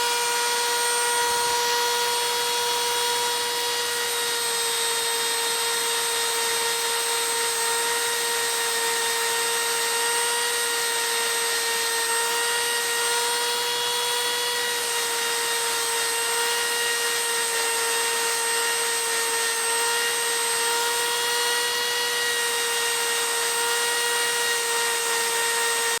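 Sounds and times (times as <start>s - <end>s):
power tool whining: 0.0s - 26.0s.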